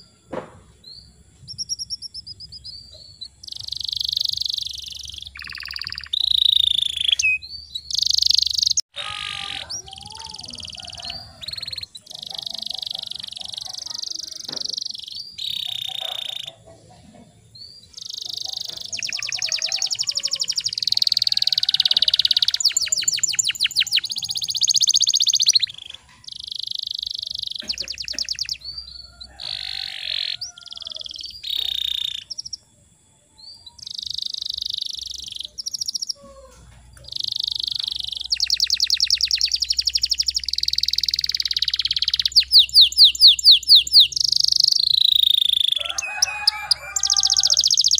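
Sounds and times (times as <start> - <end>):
canary singing with trills: 0.0 - 47.9.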